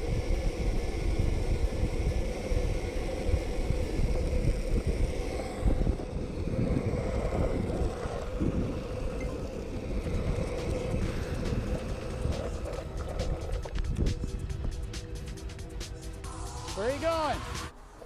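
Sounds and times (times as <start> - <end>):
wind buffeting microphone: 0.0 - 15.0
skateboard wheels rolling on asphalt: 0.0 - 18.0.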